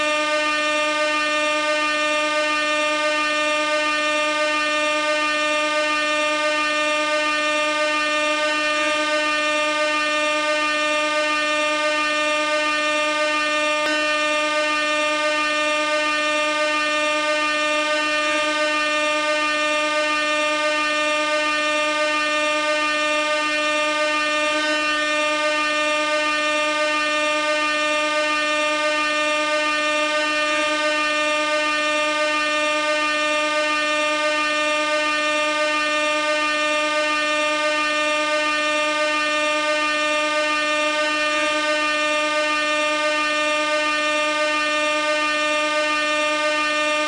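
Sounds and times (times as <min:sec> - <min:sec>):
air horn long note: 0:00.0 - 0:47.0.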